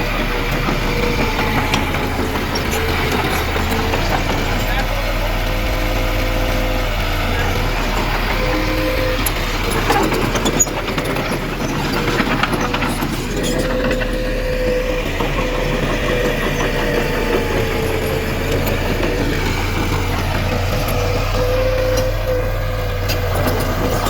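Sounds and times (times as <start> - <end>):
diesel engine running with whine: 0.0 - 24.0.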